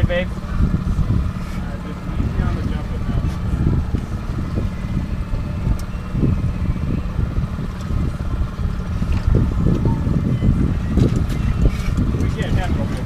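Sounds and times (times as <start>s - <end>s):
boat motor rumbling: 0.0s - 13.0s
wind buffeting microphone: 0.0s - 13.0s.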